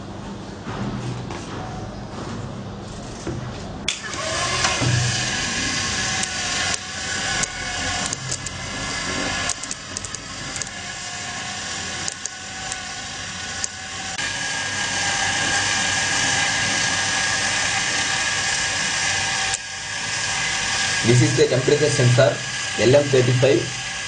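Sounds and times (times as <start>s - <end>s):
thin steady whine: 1.2s - 24.0s
robot motors whirring: 3.9s - 24.0s.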